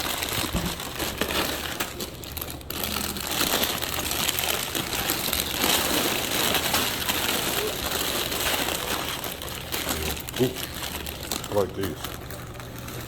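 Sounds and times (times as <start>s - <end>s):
plastic packages crinkling: 0.0s - 13.0s.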